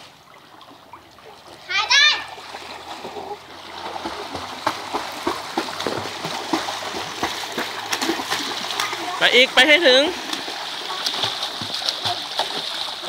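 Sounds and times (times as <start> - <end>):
legs kicking and splashing water: 0.0 - 13.0.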